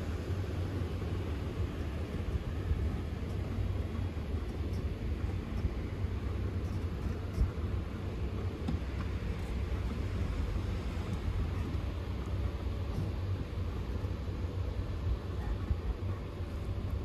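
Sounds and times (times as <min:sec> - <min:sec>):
blower fans humming: 0:00.0 - 0:17.0.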